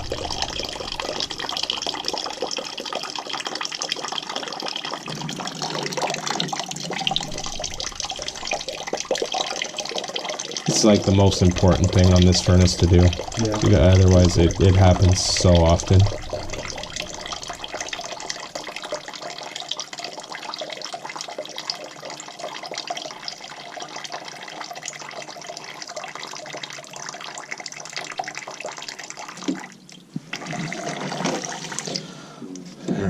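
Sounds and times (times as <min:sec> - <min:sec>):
water pouring from drain tubing: 0:00.0 - 0:33.0.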